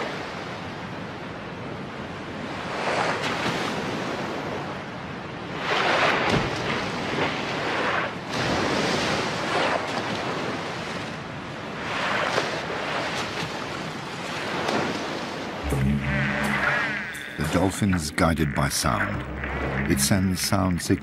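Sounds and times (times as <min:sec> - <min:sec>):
sea water rushing and splashing: 0:00.0 - 0:20.9.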